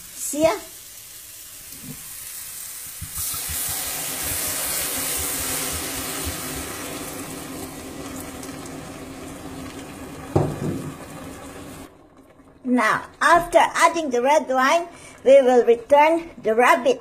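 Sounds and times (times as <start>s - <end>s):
wine sizzling in hot pot: 0.0s - 17.0s.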